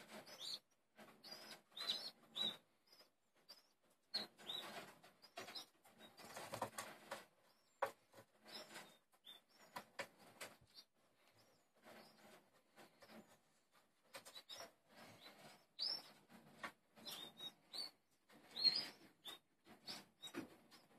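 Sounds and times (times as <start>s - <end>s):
fledgling birds begging chirps: 0.0s - 13.4s, 14.0s - 20.9s.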